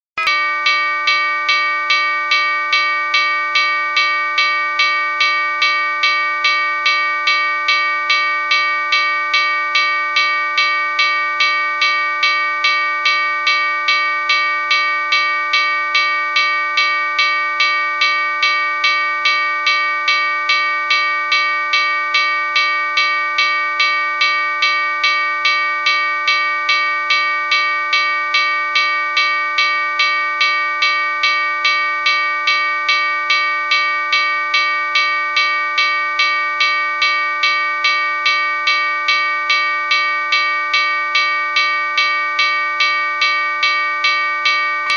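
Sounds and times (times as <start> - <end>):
railroad crossing bell ringing: 0.2 - 44.9.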